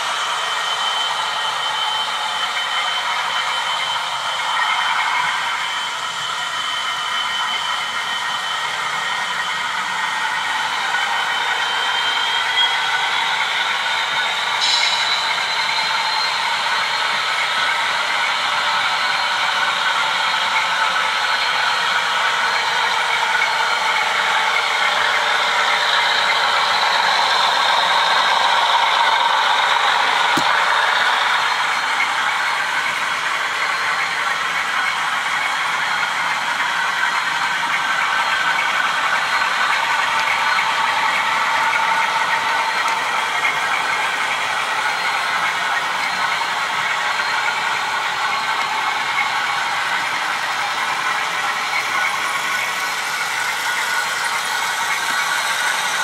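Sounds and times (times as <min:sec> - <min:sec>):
model train motors whirring: 0:00.0 - 0:56.0
wheels rattling on track: 0:00.0 - 0:56.0.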